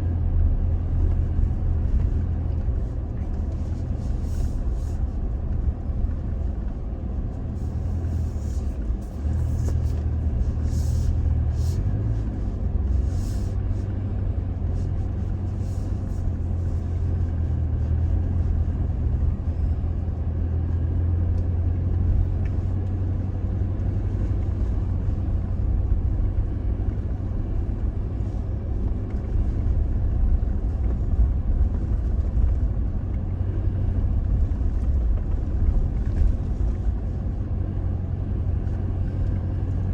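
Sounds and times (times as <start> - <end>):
pickup engine and tyres rumbling: 0.0 - 39.9.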